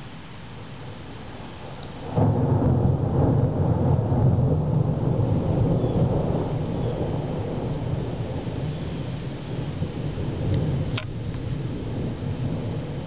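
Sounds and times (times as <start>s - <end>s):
thunder rumbling: 0.8s - 13.0s.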